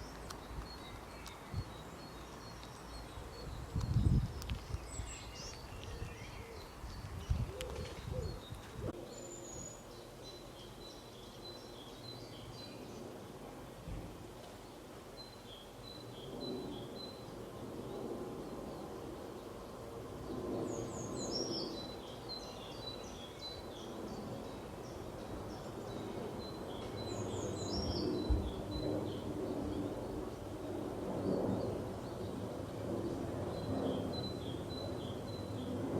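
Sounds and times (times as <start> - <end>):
small birds chirping: 0.0 - 13.1, 14.5 - 35.8
outdoor background noise: 0.0 - 35.9.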